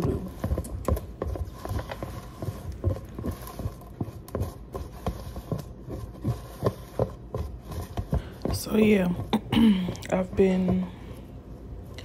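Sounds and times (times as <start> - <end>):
spatula scraping plastic tub: 0.0 - 11.1.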